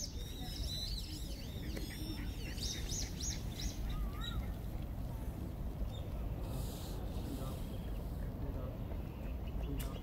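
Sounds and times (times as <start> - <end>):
small birds chirping: 0.0 - 4.8, 5.8 - 10.0.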